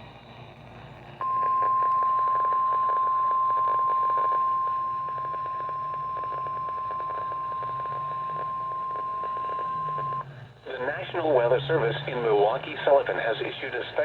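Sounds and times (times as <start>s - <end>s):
faint radio static: 0.0s - 14.0s.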